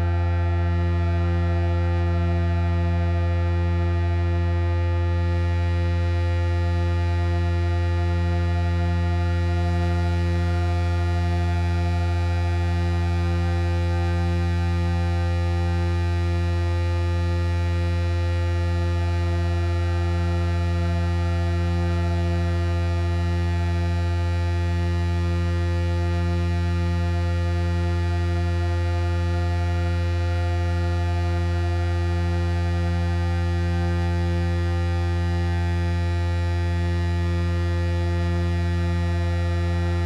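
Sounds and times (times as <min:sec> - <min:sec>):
low synthesizer drone: 0:00.0 - 0:40.0.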